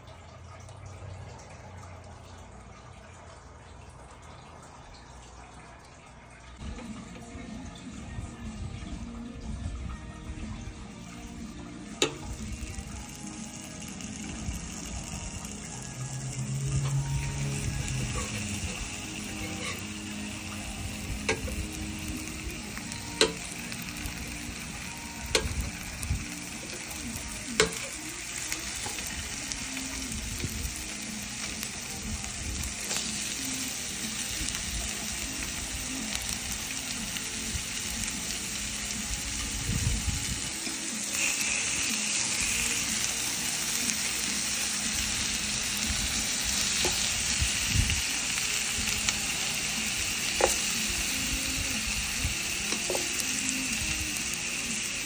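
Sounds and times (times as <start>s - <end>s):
food sizzling on grill pan: 10.0s - 55.0s.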